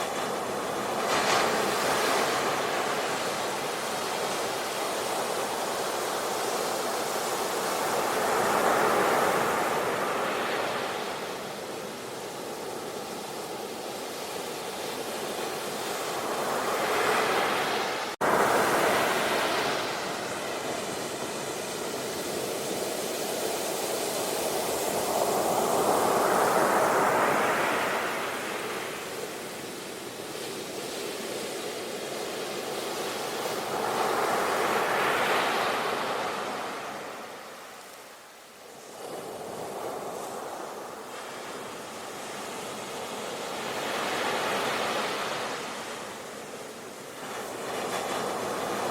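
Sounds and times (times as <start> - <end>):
ocean waves washing up beach: 0.0 - 48.9.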